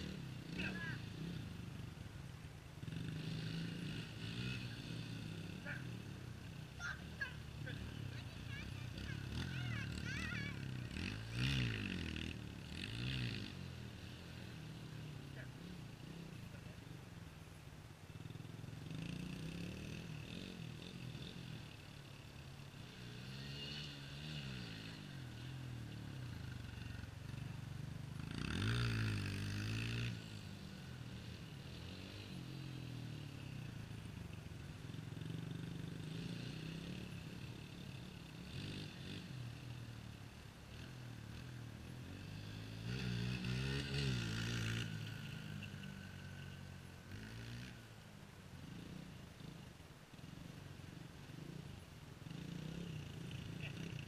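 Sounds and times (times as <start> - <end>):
distant dirt bike engine revving: 0.0 - 54.0.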